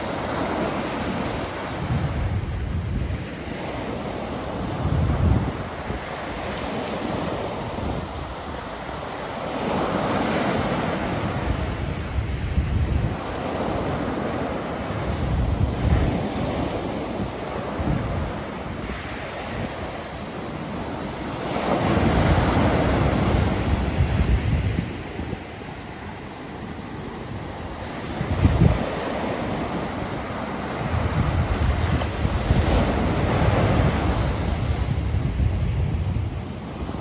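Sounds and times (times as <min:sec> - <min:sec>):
ocean surf breaking: 0:00.0 - 0:37.0
wind rumble on microphone: 0:00.0 - 0:37.0.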